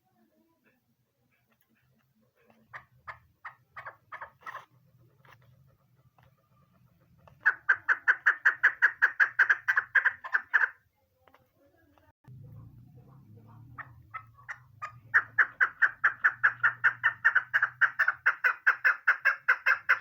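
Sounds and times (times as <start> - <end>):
partridge clucking calls: 1.3 - 11.4, 12.0 - 20.0.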